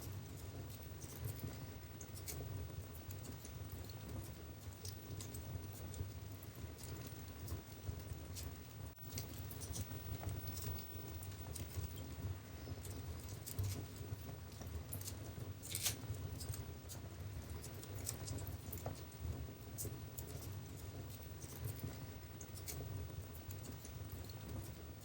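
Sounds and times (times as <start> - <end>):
low fire rumble: 0.0 - 25.0
wood fire crackling: 0.0 - 25.0.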